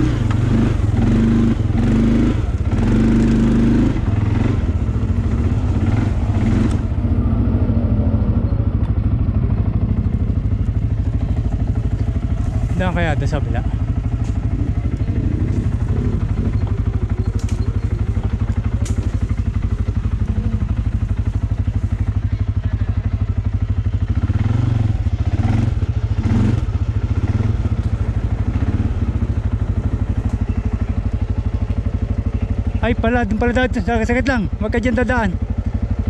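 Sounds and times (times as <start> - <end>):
atv engine running at low speed: 0.0 - 36.0.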